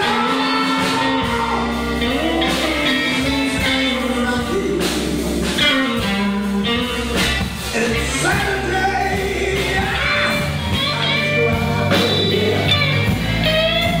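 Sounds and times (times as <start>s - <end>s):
live rock band playing: 0.0s - 14.0s
singer singing: 0.0s - 14.0s.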